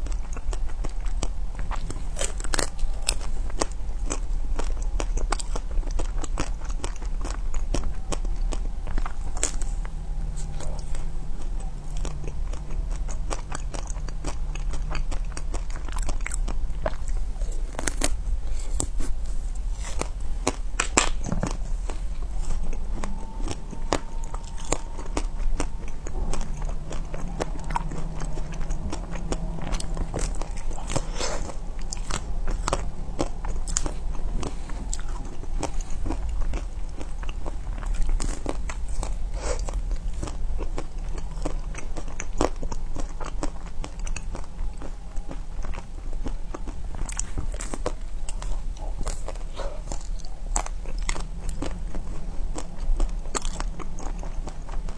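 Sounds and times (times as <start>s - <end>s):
ice cream bar crunching bites: 0.0s - 54.9s
soft chewing: 0.0s - 54.9s.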